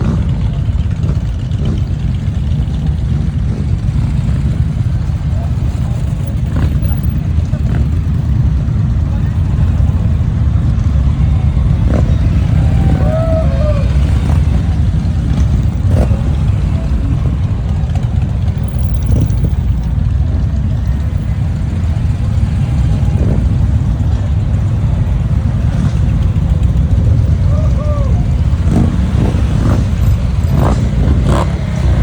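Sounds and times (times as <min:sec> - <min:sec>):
faint voices: 0:00.0 - 0:32.0
motorcycle engines rumbling: 0:00.0 - 0:32.0.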